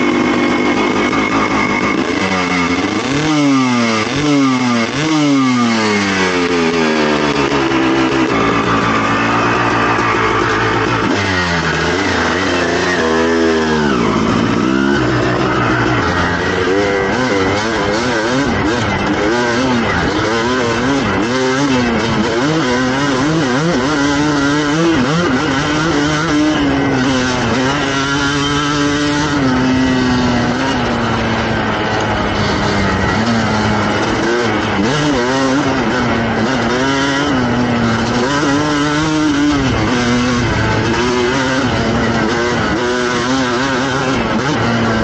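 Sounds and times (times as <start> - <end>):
two-stroke motorcycle engine revving: 0.0 - 45.0.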